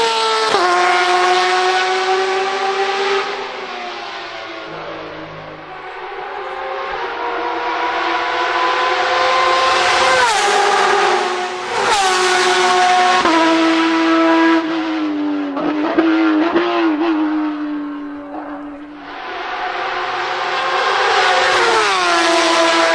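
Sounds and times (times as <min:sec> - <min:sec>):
race car engine at full throttle: 0:00.0 - 0:22.9.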